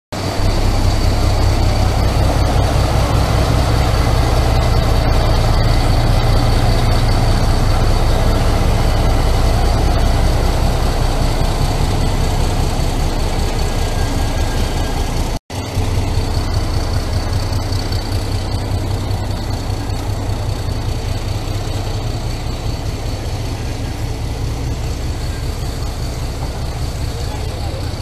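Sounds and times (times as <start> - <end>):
diesel locomotive engine droning: 0.1 - 28.0.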